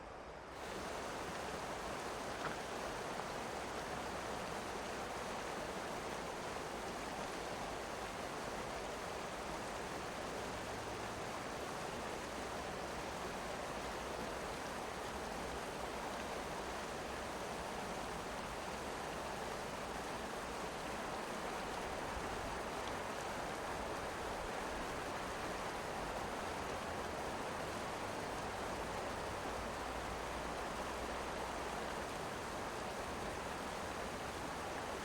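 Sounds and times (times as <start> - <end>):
river rushing: 0.6 - 35.0.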